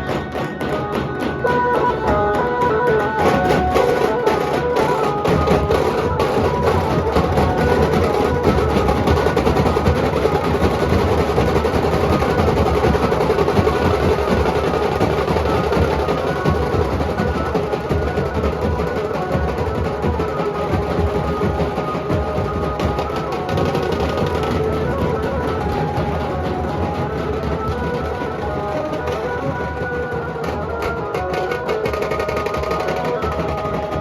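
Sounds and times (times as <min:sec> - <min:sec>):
barrel drums beaten fast: 0:00.0 - 0:34.0.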